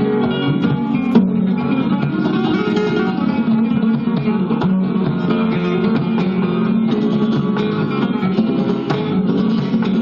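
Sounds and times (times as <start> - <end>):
flamenco guitar playing: 0.0 - 10.0.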